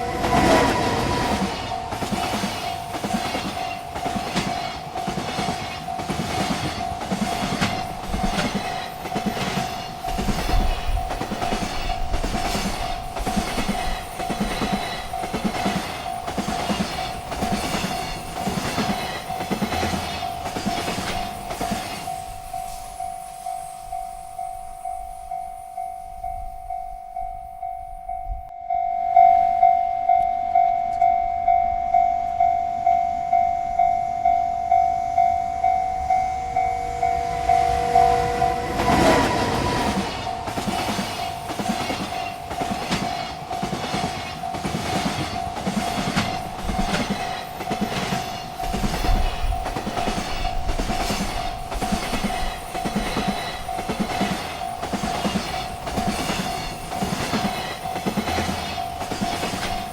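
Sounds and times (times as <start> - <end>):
train wheels clattering on rails: 0.0 - 24.8, 35.6 - 59.9
railroad crossing bell ringing: 0.0 - 59.9.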